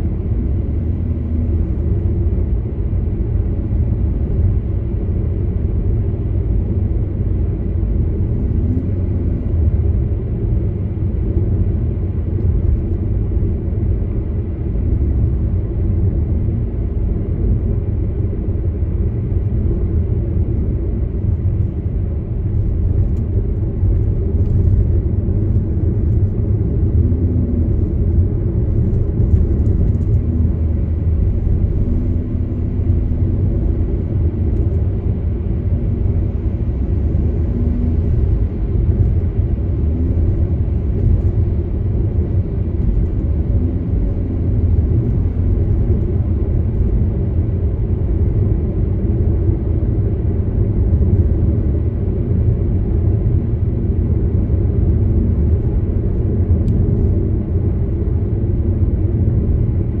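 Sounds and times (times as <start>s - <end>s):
car driving rumble: 0.0s - 60.0s.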